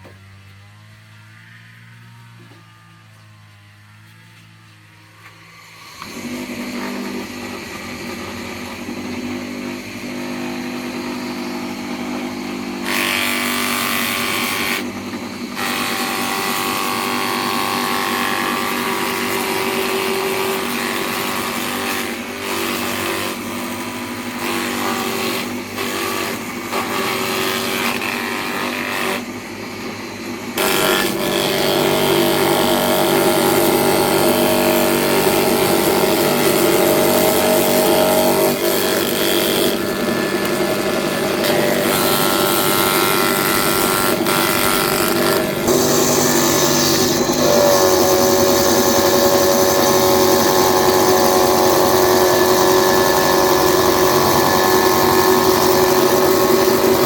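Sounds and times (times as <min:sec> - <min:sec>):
power tool motor running: 0:00.0 - 0:57.0.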